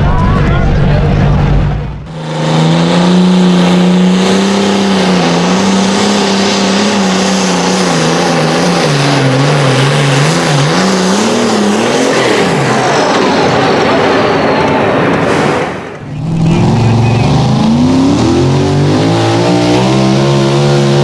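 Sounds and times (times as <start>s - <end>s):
tractor engine revving hard: 0.0s - 21.0s.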